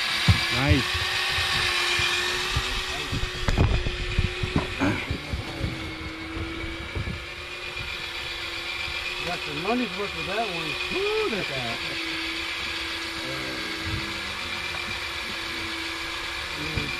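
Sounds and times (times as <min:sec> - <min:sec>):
fishing reel motor whining: 0:00.0 - 0:16.9.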